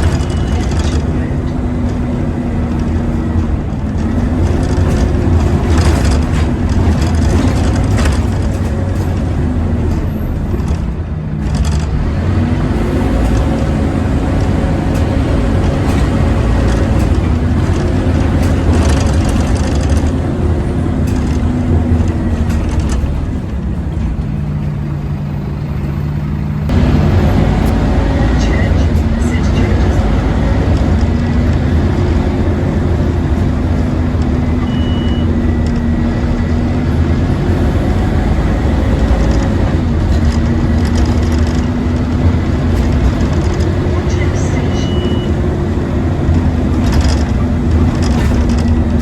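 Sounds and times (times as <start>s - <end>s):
bus engine whining: 0.0s - 49.0s.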